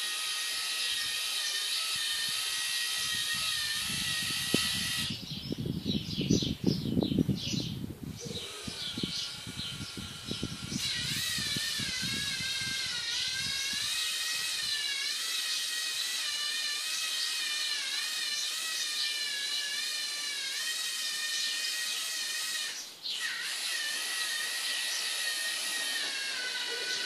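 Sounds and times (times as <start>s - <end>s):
toy servo motors whining: 0.0s - 5.3s, 8.1s - 27.0s.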